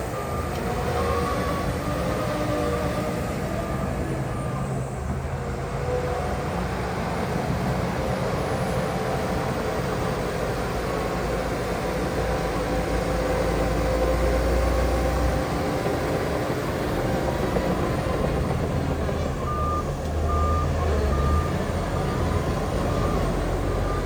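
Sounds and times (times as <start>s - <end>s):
diesel machinery rumbling: 0.0s - 24.0s.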